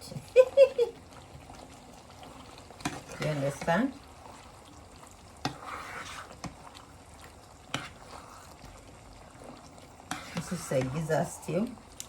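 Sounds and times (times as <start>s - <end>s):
wet stirring of stew: 0.0s - 12.0s.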